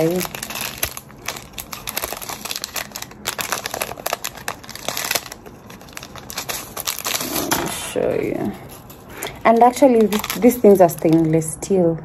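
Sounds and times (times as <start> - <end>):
plastic packet crinkling: 0.0 - 11.5.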